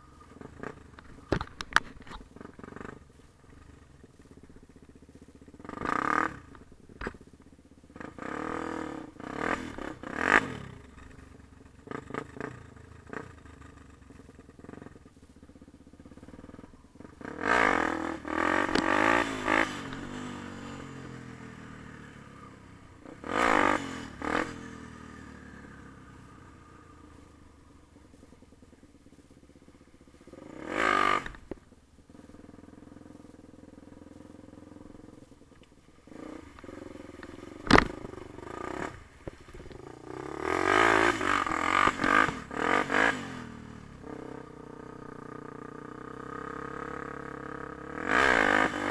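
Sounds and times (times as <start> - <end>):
dirt bike engine revving: 0.0 - 4.7, 5.4 - 7.2, 7.9 - 13.7, 14.6 - 35.2, 35.9 - 48.9.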